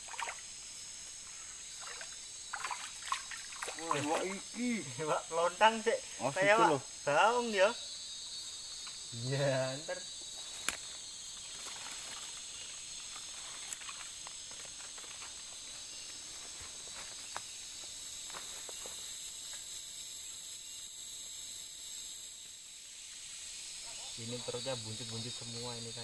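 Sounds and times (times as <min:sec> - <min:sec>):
insect high-pitched drone: 0:00.0 - 0:26.0
insect pulsing chirp: 0:00.0 - 0:26.0.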